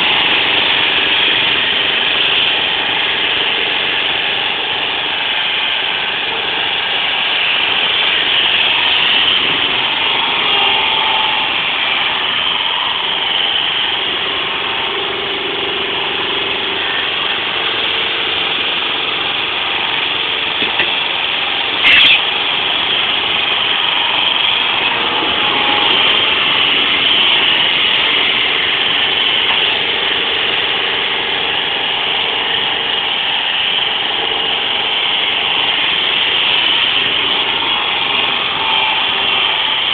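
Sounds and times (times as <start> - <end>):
forklift engine running: 0.0 - 39.9.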